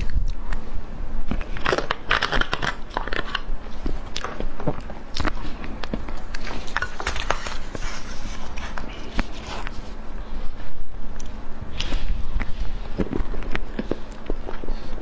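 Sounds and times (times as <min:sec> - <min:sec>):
biting and chewing: 0:00.0 - 0:10.0, 0:11.1 - 0:15.0.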